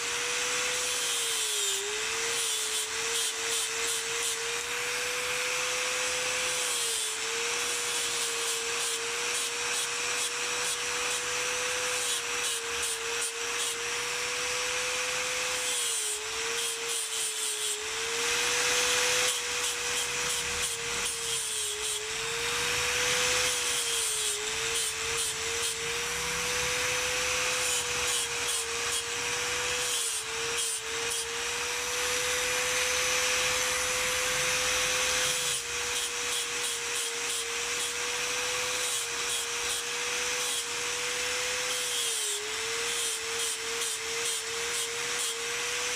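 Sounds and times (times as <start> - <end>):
angle grinder grinding horn: 0.0 - 45.9.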